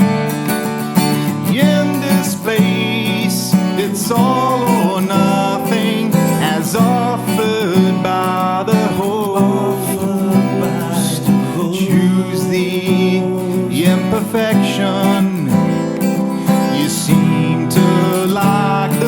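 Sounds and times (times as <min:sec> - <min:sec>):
country acoustic guitar song: 0:00.0 - 0:19.0.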